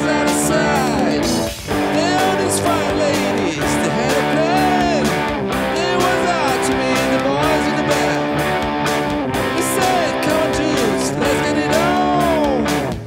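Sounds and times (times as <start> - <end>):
electric guitar bending notes: 0.0 - 13.0
rock band playing: 0.0 - 13.0.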